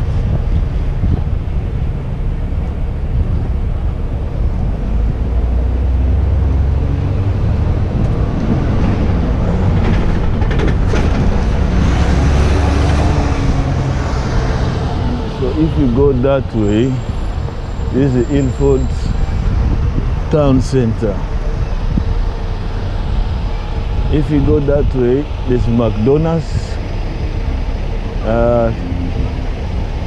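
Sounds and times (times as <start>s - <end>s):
heavy vehicle engine rumbling: 0.0s - 30.0s.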